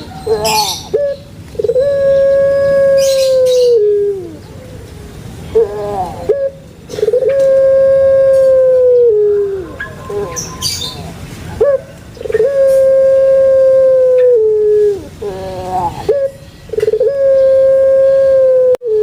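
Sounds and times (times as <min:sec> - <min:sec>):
dove cooing: 0:00.0 - 0:04.8, 0:05.5 - 0:19.0.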